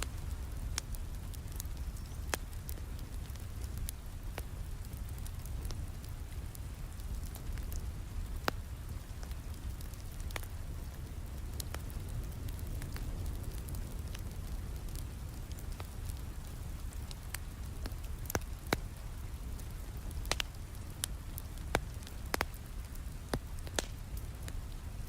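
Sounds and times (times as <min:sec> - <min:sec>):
steady rain: 0:00.0 - 0:25.0
wood fire crackling: 0:00.0 - 0:25.0.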